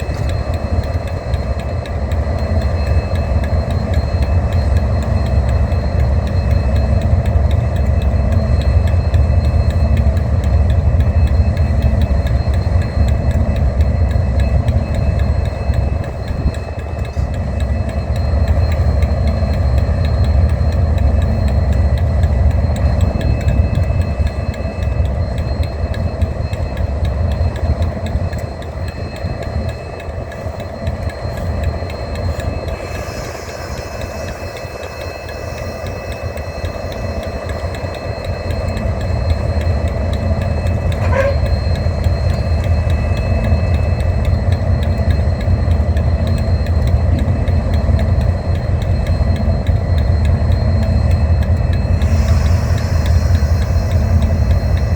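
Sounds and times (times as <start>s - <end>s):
locomotive engine rumbling: 0.0s - 54.9s
steady whine: 0.0s - 54.9s.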